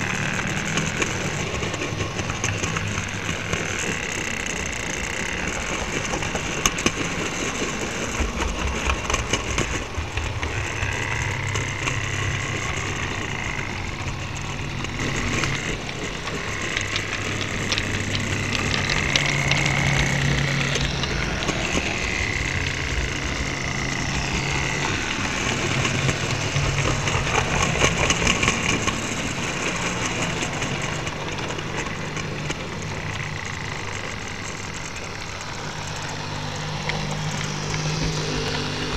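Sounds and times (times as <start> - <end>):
electric motor hum and whine: 0.0 - 38.9
wheels clicking on track: 0.0 - 38.9.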